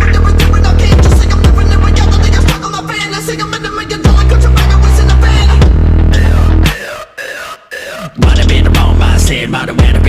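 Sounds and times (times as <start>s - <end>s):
hip hop music with heavy bass: 0.0s - 10.0s.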